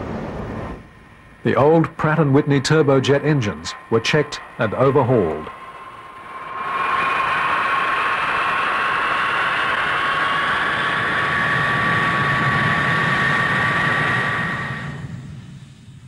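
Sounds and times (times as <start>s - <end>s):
jet engine whine and roar: 0.0s - 16.0s.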